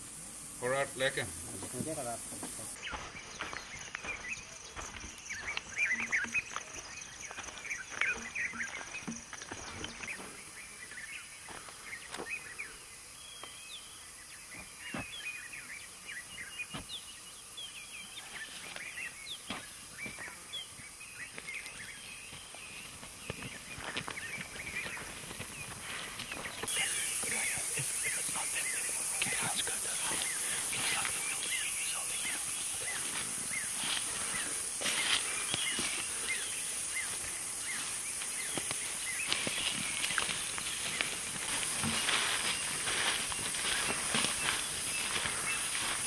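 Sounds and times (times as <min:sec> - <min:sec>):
faint high-pitched hiss: 0:00.0 - 0:46.0
footsteps through dry grass: 0:02.7 - 0:12.6, 0:18.3 - 0:46.0
birds chirping and calling: 0:02.7 - 0:46.0.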